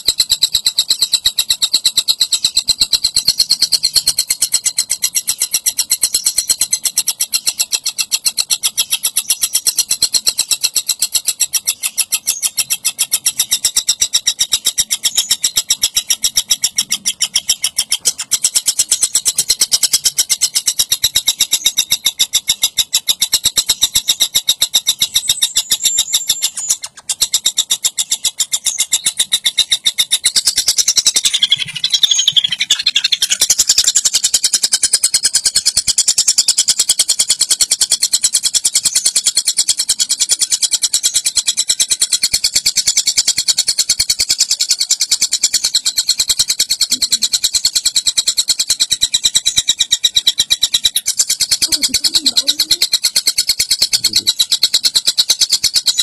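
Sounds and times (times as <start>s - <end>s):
kingfisher rattling call: 0.0s - 56.0s.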